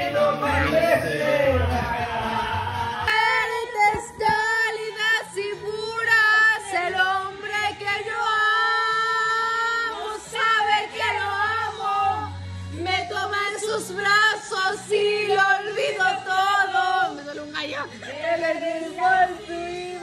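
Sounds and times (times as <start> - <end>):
woman singing: 3.0 - 20.0.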